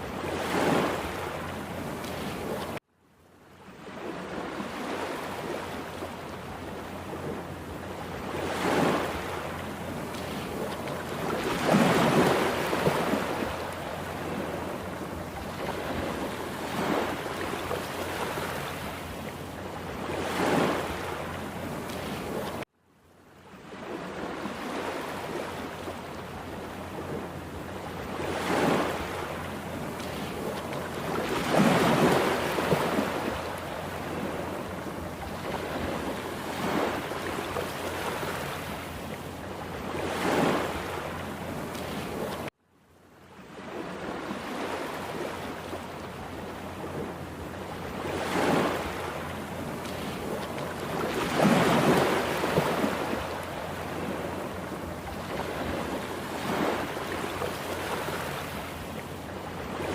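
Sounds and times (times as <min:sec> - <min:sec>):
heavy surf waves breaking: 0:00.0 - 0:02.8, 0:03.6 - 0:22.6, 0:23.5 - 0:42.5, 0:43.4 - 0:59.9.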